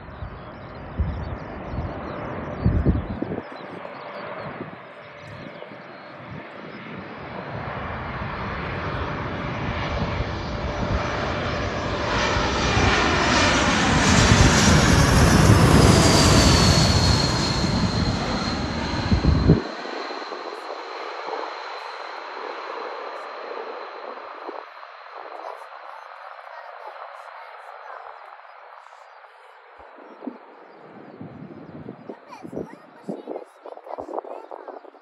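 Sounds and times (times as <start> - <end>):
jet airliner passing overhead: 0.0 - 35.0
jet engine high whine: 0.0 - 35.0.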